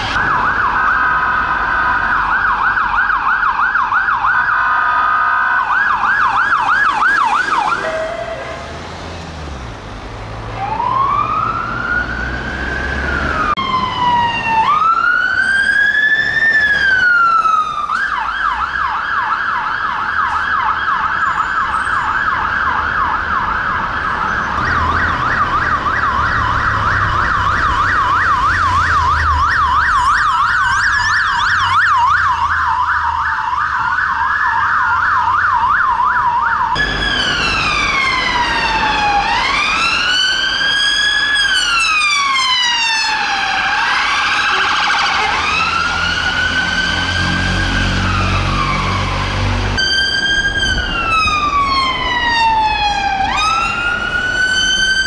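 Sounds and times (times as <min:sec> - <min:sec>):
emergency sirens: 0:00.0 - 0:55.0
traffic and engine rumble: 0:00.0 - 0:55.0.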